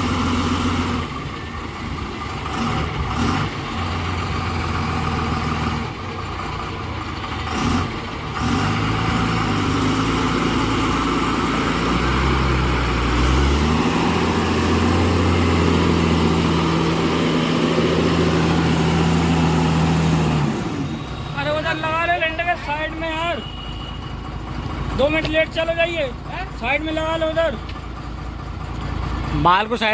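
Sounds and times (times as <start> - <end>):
heavy diesel engine under load: 0.0 - 29.9.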